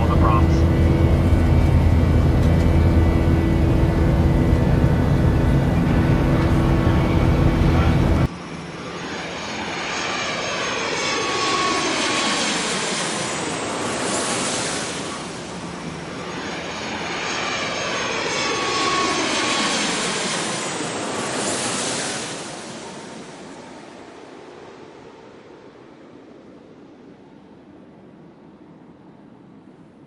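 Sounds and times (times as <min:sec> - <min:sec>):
jet engines whining: 0:00.0 - 0:29.9.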